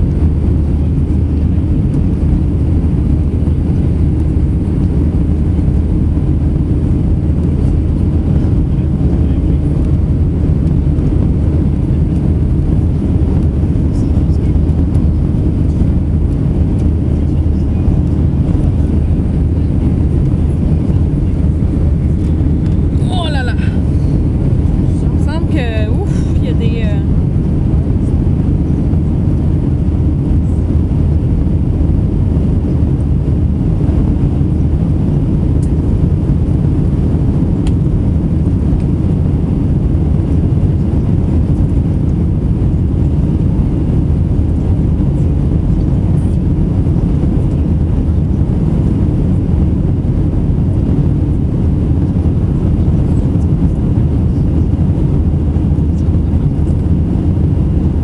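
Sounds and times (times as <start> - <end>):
jet engine roar in cabin: 0.0 - 58.0.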